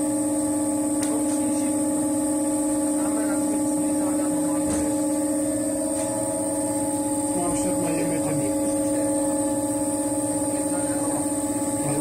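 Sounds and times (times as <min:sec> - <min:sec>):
potter's wheel motor humming: 0:00.0 - 0:12.0.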